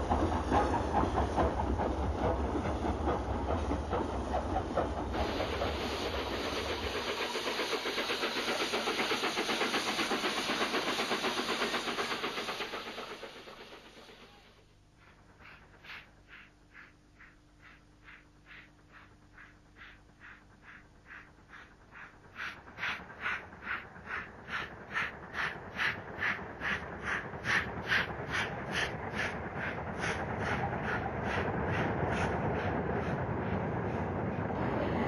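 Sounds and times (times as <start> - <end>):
steam locomotive chuffing: 0.0 - 35.0
train rumble: 0.0 - 35.0.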